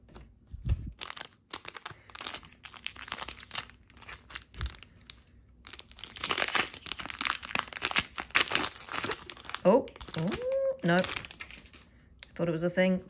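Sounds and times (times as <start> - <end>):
foil wrapper crinkling: 0.7 - 11.9
foil wrapper tearing: 1.0 - 11.9.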